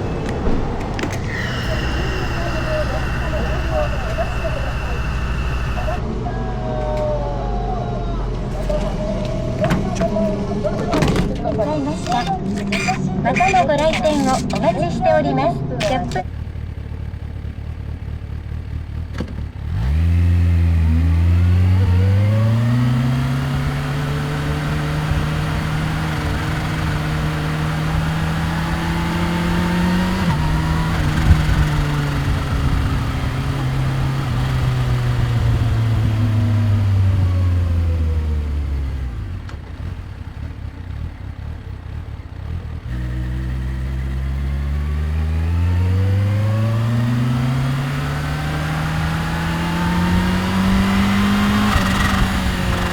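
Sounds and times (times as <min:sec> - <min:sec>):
motorcycle engine accelerating: 0:00.0 - 0:14.2, 0:15.8 - 0:52.9.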